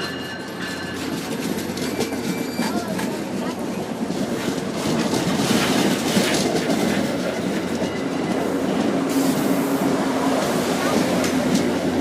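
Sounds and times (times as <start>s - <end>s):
train wheels clattering over rail joints: 0.0s - 12.0s.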